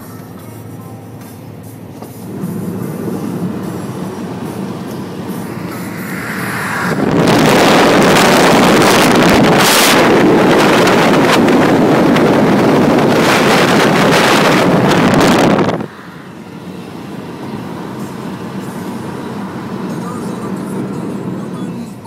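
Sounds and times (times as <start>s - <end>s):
car road and wind noise: 0.0s - 22.0s
rush of wind and tyre noise: 2.0s - 22.0s.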